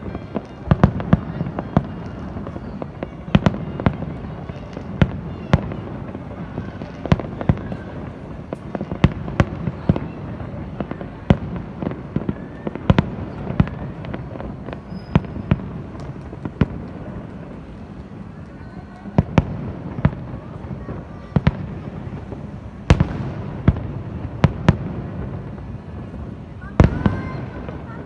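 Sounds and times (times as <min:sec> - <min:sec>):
distant fireworks rumble: 0:00.0 - 0:28.0
fireworks bangs and pops: 0:00.0 - 0:28.0.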